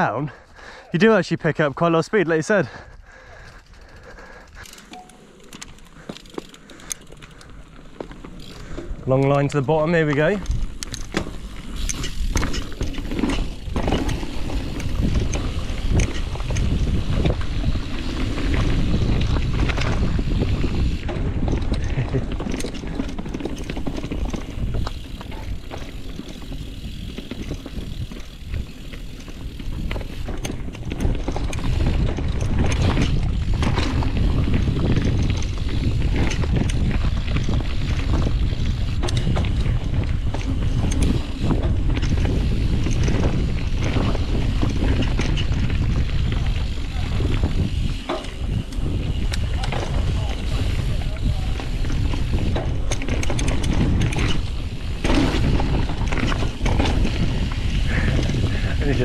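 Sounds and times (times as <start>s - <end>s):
bike tyres rolling on dirt: 0.0s - 59.0s
bike knocking and rattling: 1.8s - 59.0s
wind rushing over microphone: 10.2s - 59.0s.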